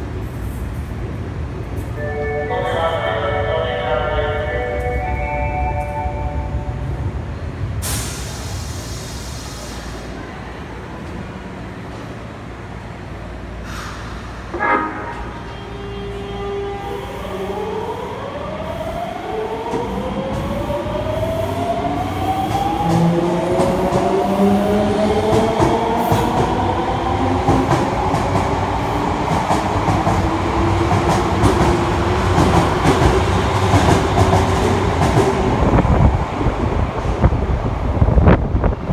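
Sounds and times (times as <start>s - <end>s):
train wheels rumbling on rail: 6.6s - 38.9s.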